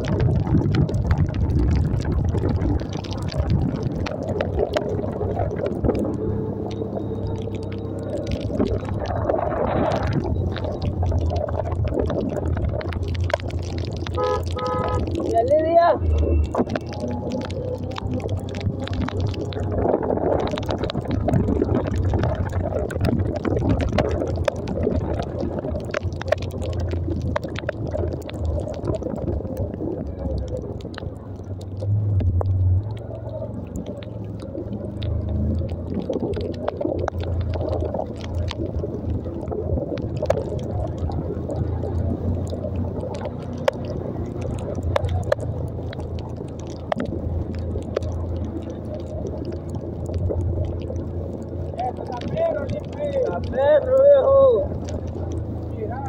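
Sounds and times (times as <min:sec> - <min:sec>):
wind on microphone: 0:00.0 - 0:53.6
motorcycle engine rumble: 0:00.0 - 0:56.0.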